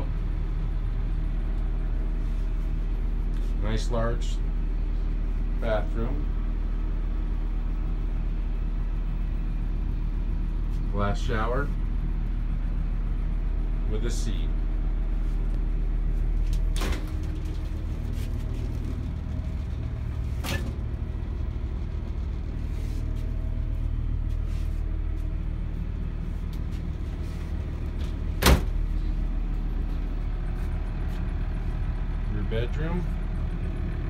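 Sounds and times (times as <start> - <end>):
low engine drone: 0.0 - 34.0.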